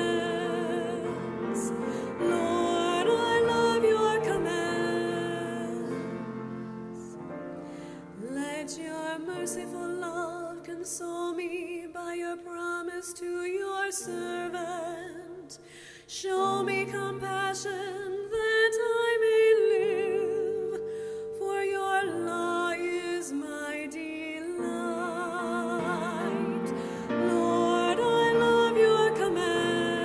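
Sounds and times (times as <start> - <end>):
woman singing with vibrato: 0.0 - 6.2, 8.2 - 30.0.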